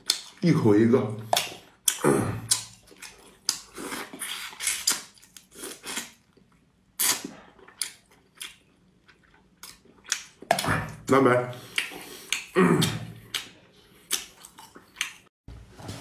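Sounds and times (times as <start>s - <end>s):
person sucking and chewing: 1.3s - 11.0s, 11.7s - 15.3s.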